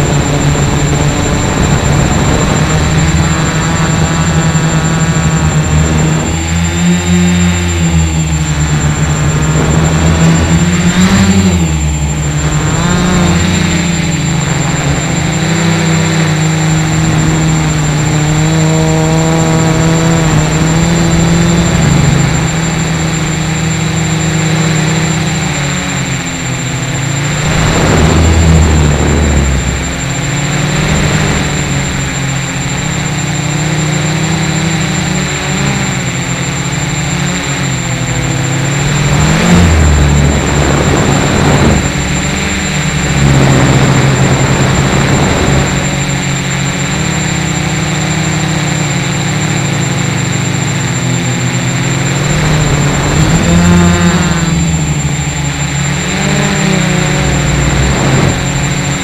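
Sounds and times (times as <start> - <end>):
drone motors and propellers whining: 0.0 - 59.0.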